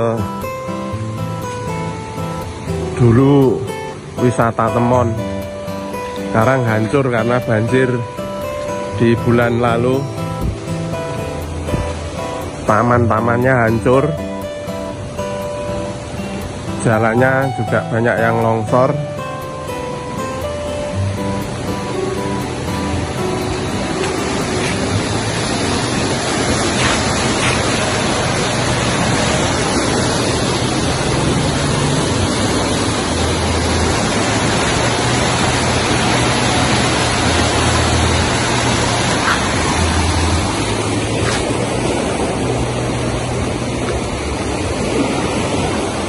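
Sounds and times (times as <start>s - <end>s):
river rushing: 0.0s - 46.0s.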